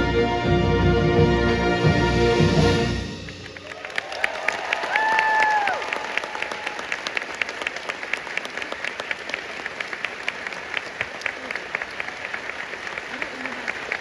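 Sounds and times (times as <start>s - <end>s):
audience applauding: 2.6s - 14.0s.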